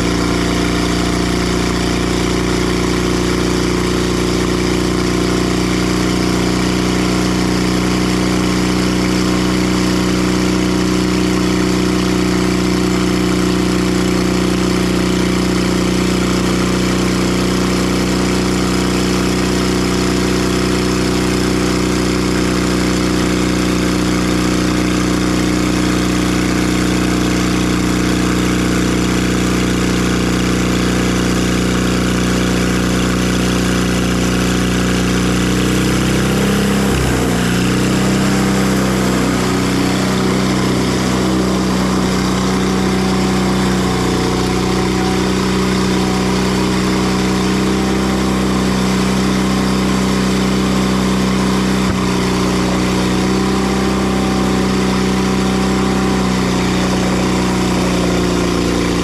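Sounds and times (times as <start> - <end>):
sawmill engine running steadily: 0.0 - 59.0.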